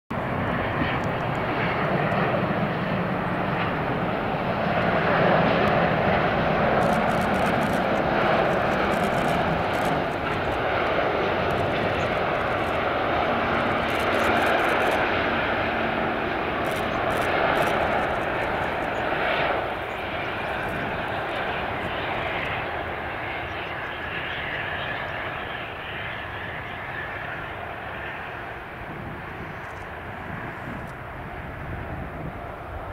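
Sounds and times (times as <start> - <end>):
jet engines roaring: 0.1 - 32.9.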